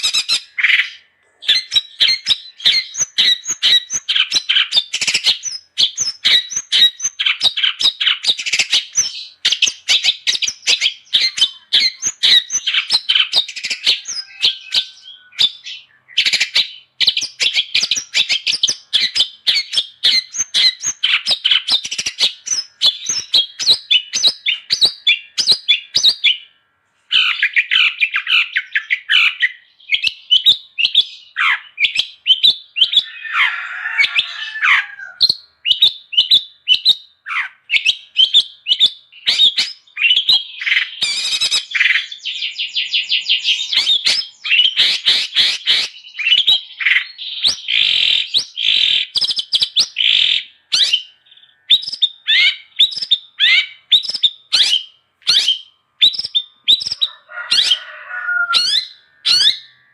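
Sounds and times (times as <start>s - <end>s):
shrike singing: 0.0s - 26.5s, 37.7s - 59.9s.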